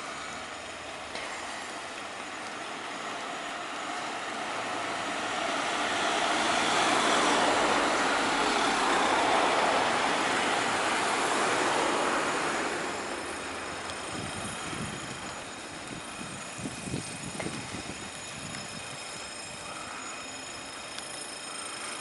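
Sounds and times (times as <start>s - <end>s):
motorhome driving past: 0.0s - 22.0s.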